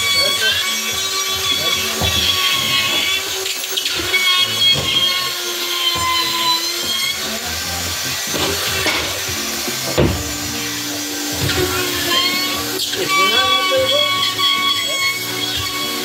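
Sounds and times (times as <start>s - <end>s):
cordless drill motor whining: 0.0s - 16.0s.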